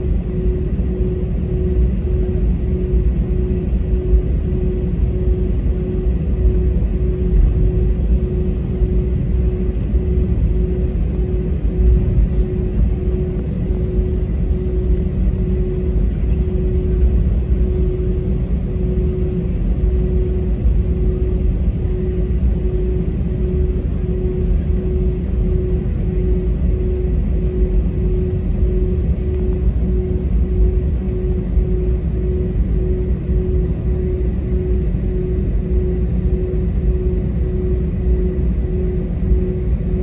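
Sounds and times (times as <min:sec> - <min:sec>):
airplane cabin rumble: 0:00.0 - 0:40.0
faint pulsing tone: 0:00.0 - 0:40.0.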